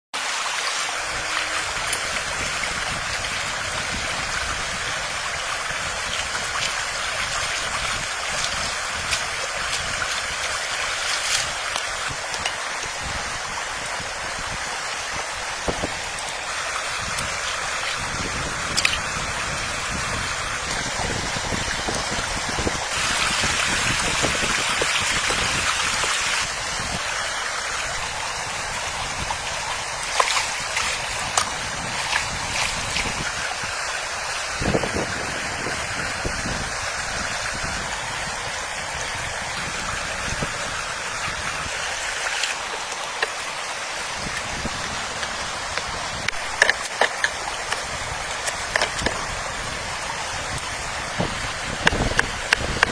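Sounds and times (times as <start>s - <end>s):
rush of running water: 0.0s - 52.9s.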